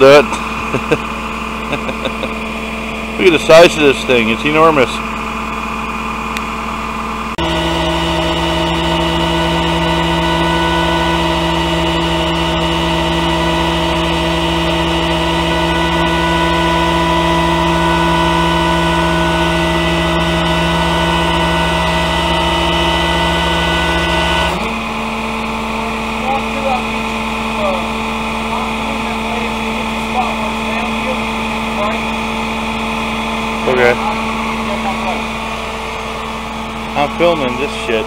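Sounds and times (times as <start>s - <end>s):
hydraulics running: 0.0s - 38.0s
truck engine running: 0.0s - 38.0s.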